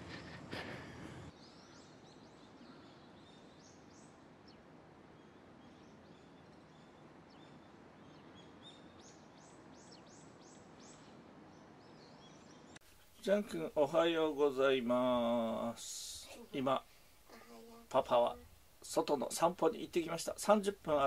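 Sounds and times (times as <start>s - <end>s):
faint birds chirping: 0.0s - 21.0s
outdoor background noise: 0.0s - 21.0s.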